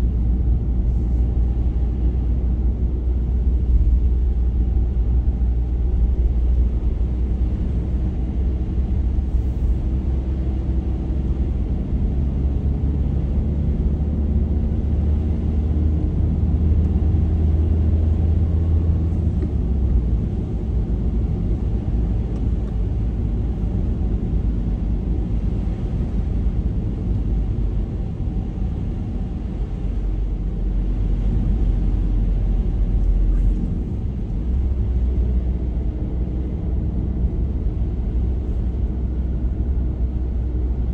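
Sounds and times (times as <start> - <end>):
car engine and tyres rumbling: 0.0 - 40.9
faint engine drone: 0.0 - 40.9.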